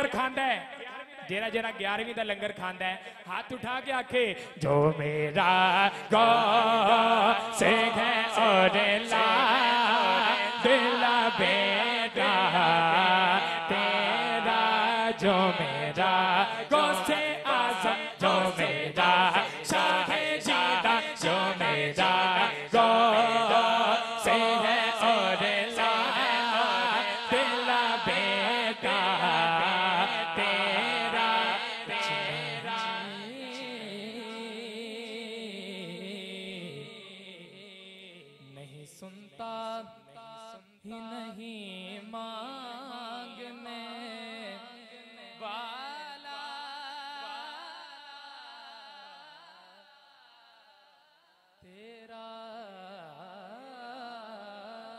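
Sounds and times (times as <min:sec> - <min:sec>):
man singing into a microphone: 0:00.0 - 0:50.9, 0:51.7 - 0:54.9.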